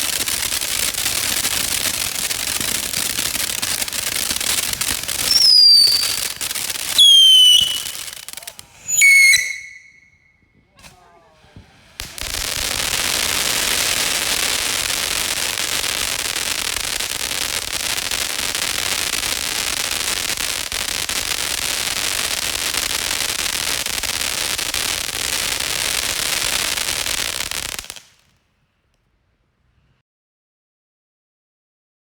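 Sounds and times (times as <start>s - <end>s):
firework crackling pops: 0.0s - 29.1s.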